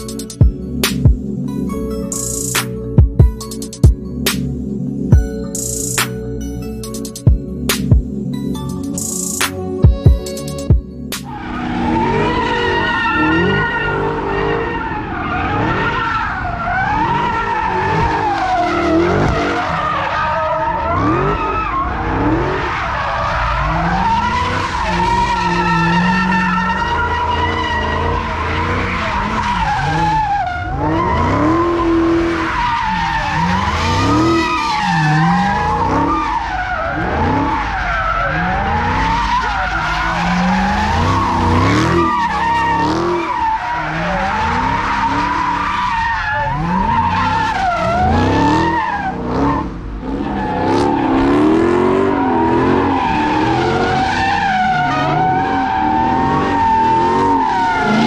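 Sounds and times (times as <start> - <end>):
tires squealing: 0.0 - 1.2, 10.2 - 58.0
car engine revving: 0.0 - 58.0.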